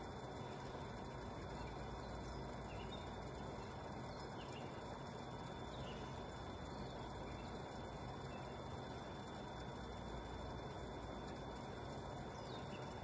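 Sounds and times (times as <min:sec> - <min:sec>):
low hiss and hum: 0:00.0 - 0:13.0.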